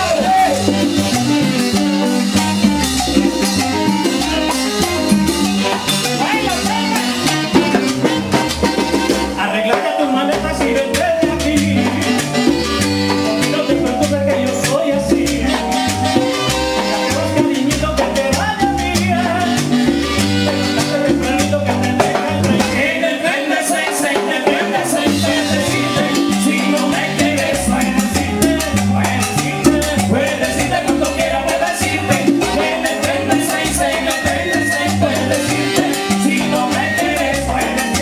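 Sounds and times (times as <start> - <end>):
latin dance band playing: 0.0 - 38.0.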